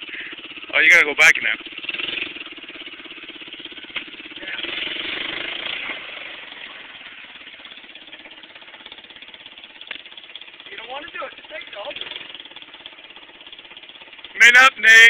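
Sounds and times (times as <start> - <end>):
atv engine running at low revs: 0.0 - 15.0.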